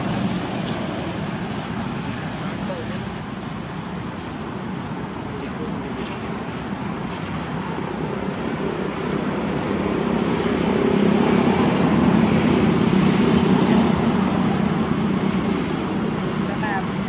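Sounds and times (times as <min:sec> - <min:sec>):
motor vehicle engine hum: 0:00.0 - 0:17.0
steady high-pitched hiss: 0:00.0 - 0:17.0.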